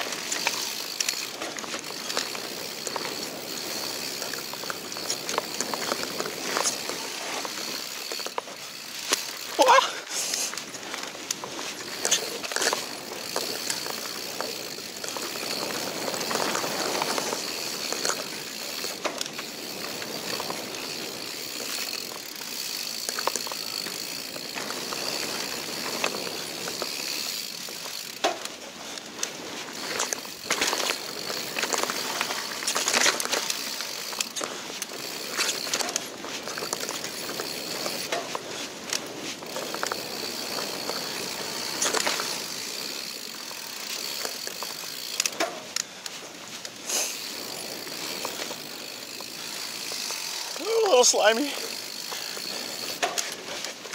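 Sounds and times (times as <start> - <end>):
bike rattling and clacking: 0.0 - 53.9
tyres on dirt: 0.0 - 53.9.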